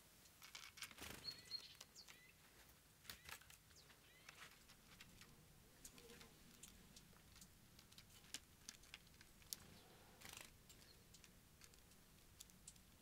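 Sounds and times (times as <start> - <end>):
soft rustle: 0.0 - 13.0
faint small clicks and ticks: 0.2 - 2.2, 3.0 - 13.0.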